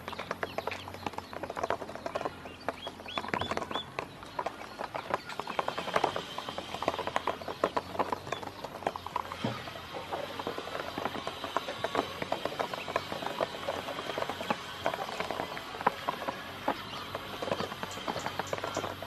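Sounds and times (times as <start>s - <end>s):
ducklings pecking clicks: 0.0s - 19.0s.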